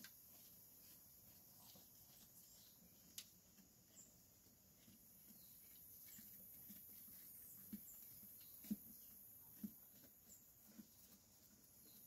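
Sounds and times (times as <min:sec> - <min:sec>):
sheep feeding on hay rustling: 0:00.0 - 0:12.0.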